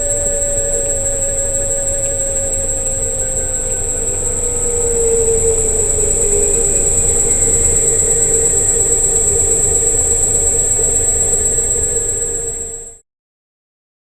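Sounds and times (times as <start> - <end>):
electric scooter whine and hum: 0.0 - 13.0.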